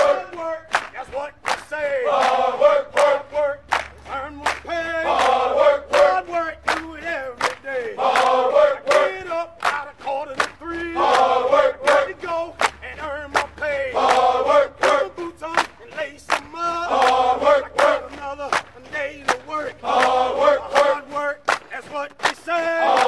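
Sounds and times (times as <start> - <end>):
group vocals singing: 0.0 - 23.0.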